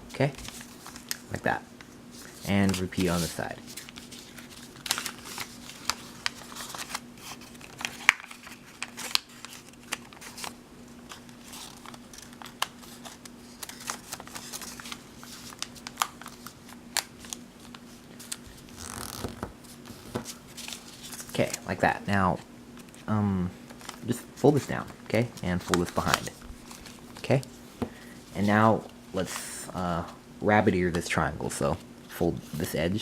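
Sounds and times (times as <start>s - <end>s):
paper folding rustles: 0.1s - 21.9s, 22.8s - 30.2s.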